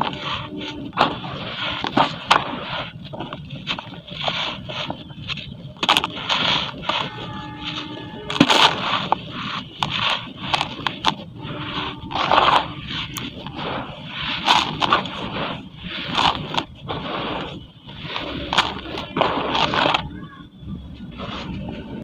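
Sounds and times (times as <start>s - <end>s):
concrete scraping in water: 0.0s - 20.1s
crackling clicks: 0.0s - 22.0s.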